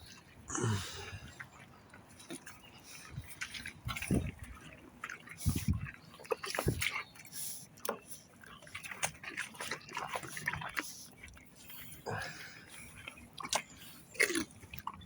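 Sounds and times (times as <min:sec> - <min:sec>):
horses chewing feed: 0:01.3 - 0:15.0.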